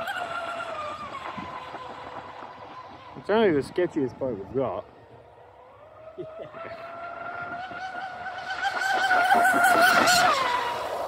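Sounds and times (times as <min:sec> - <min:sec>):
electric motor high whine: 0:00.0 - 0:11.0.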